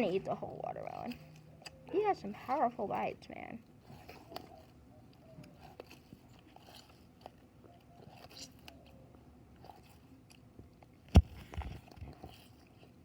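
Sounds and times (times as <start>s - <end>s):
tortoise chewing rind: 0.0s - 13.0s.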